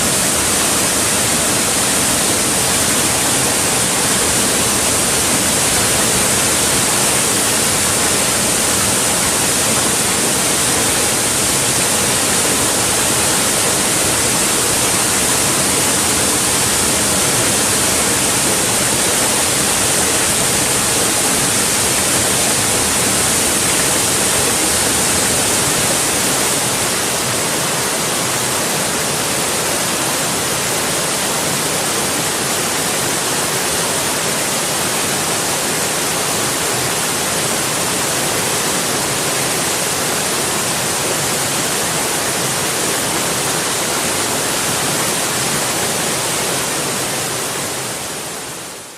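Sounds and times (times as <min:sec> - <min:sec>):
stream rushing: 0:00.0 - 0:48.9.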